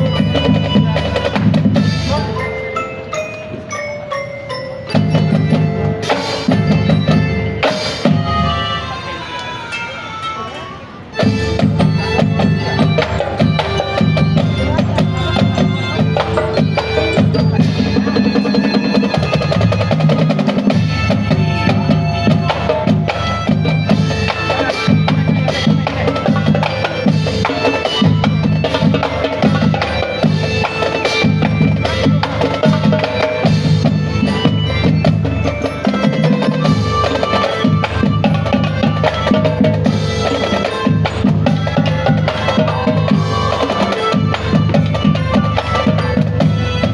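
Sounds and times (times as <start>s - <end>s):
snare and bass drums beat: 0.0s - 2.4s, 11.2s - 46.9s
marching band playing: 0.0s - 46.9s.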